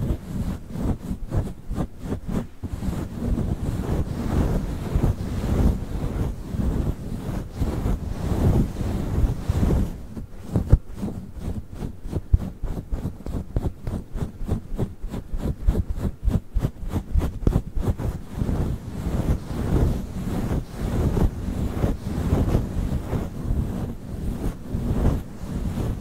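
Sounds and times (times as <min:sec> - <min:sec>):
microphone cover rustling: 0:00.0 - 0:26.0
microphone cover strokes: 0:00.0 - 0:26.0.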